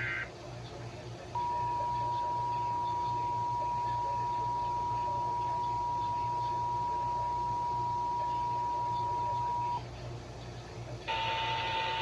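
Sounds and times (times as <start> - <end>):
faint radio hiss and hum: 0.0 - 12.0.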